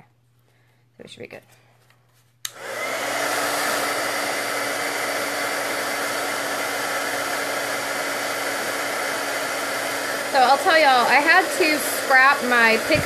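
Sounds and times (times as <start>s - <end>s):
heat tool blowing air: 2.5s - 13.0s.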